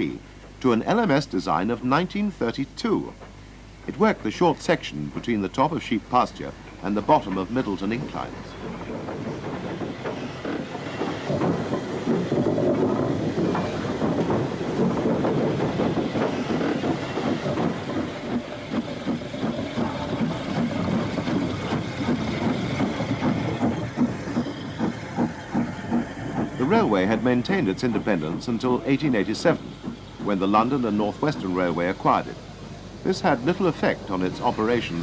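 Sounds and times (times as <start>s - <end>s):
wheels and couplings clattering: 6.3s - 35.0s
steam hiss: 6.4s - 35.0s.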